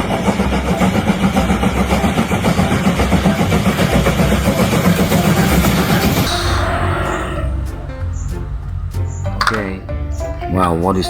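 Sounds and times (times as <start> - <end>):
fluttering engine rumble: 0.0 - 10.4.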